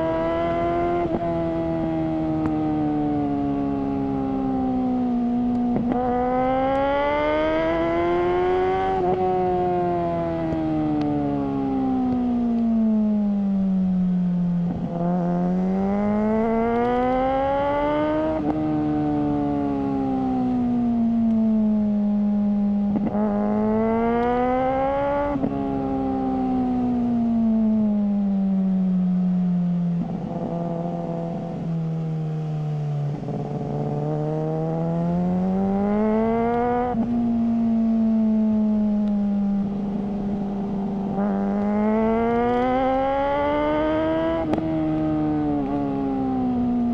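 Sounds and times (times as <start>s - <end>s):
motorcycle engine revving: 0.0s - 13.8s, 14.5s - 28.7s, 29.4s - 46.9s.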